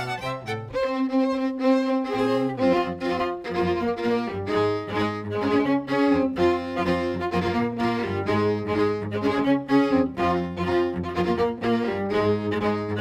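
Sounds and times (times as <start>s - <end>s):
bowed strings music: 0.0s - 13.0s.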